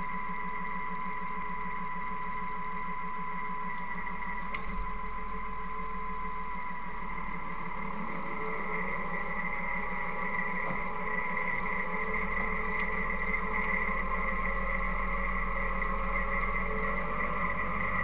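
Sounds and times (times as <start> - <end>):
high whine: 0.0 - 18.0
tractor engine rumble: 0.0 - 18.0.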